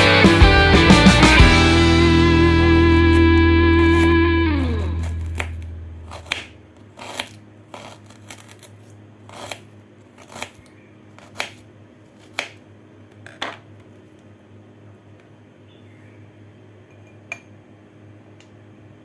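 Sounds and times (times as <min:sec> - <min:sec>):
low steady hum: 0:00.4 - 0:19.0.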